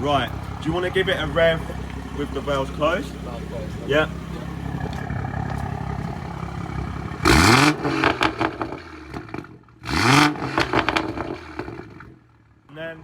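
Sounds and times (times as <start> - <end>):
exhaust pops and crackles: 0.0 - 12.2
car engine revving: 0.0 - 12.3.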